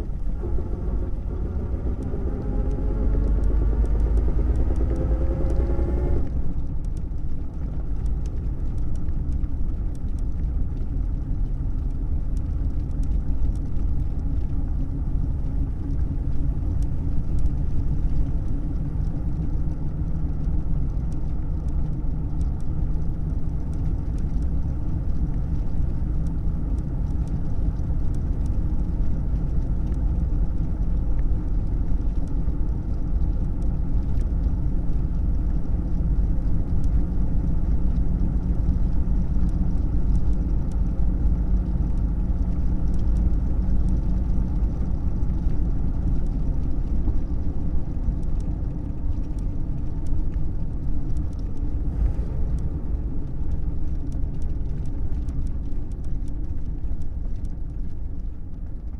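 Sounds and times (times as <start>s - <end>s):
car engine rumbling: 0.0s - 58.9s.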